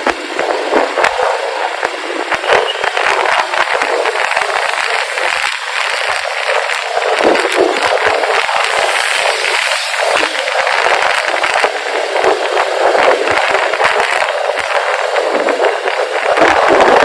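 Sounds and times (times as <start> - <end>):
road and traffic noise: 0.0 - 17.0
wind rushing over microphone: 0.0 - 17.0.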